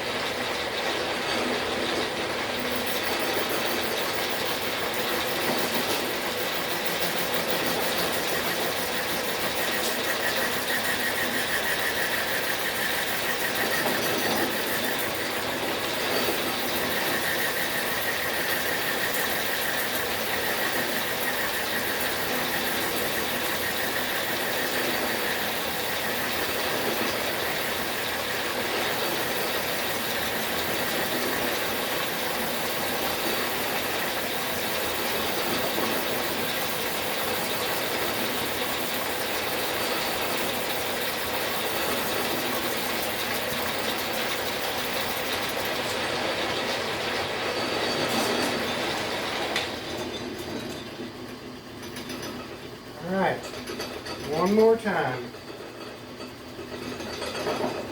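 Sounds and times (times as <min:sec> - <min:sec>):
metal lathe clattering: 0:00.1 - 0:50.8, 0:53.4 - 0:57.9.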